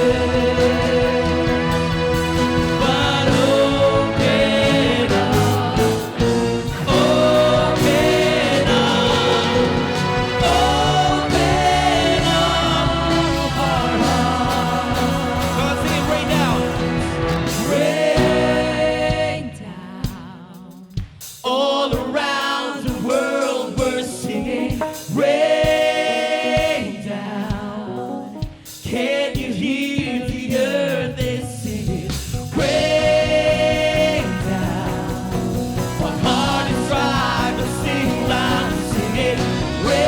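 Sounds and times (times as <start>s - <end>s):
people singing: 0.0s - 40.0s
worship band playing: 0.0s - 40.0s.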